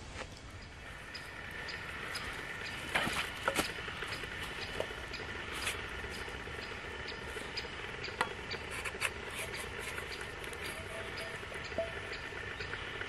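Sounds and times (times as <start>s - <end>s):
wood fire hissing: 0.0s - 13.0s
fire crackling and popping: 0.3s - 13.0s.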